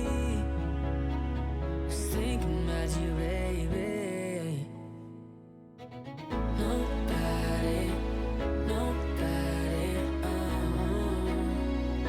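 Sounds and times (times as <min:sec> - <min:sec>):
slow tender song: 0:00.0 - 0:12.0.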